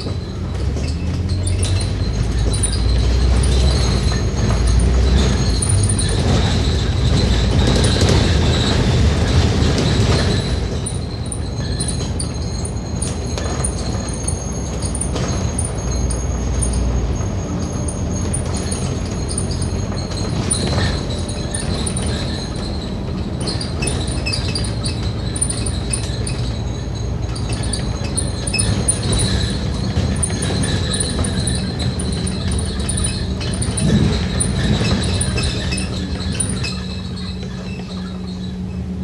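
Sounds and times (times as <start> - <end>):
bus engine drone: 0.0 - 39.0.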